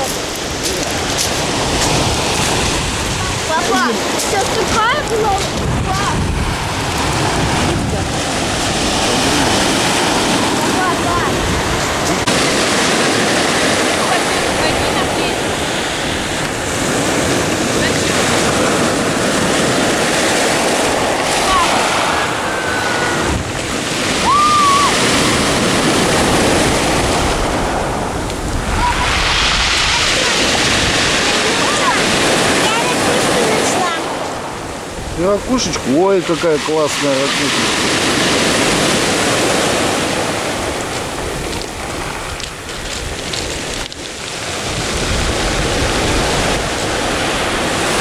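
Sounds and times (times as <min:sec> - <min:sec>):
wind buffeting microphone: 0:00.0 - 0:36.8, 0:37.4 - 0:48.0
surf breaking on pebbles: 0:00.0 - 0:48.0.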